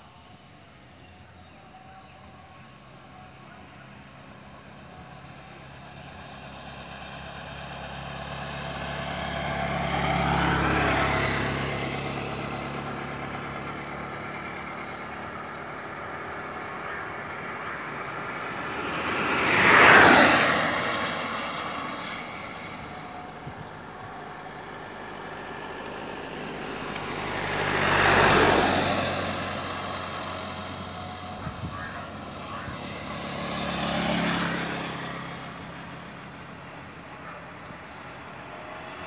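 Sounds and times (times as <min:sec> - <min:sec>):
road vehicles passing: 0:00.0 - 0:39.0.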